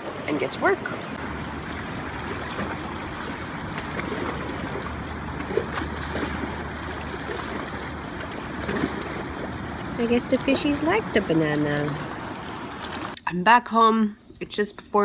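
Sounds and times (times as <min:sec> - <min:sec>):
water lapping at shore: 0:00.0 - 0:13.2.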